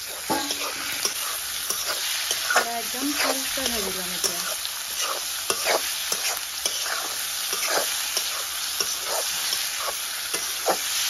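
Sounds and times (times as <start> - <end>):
chicken sizzling in oil: 0.0 - 11.0
spatula scraping pan: 0.0 - 11.0.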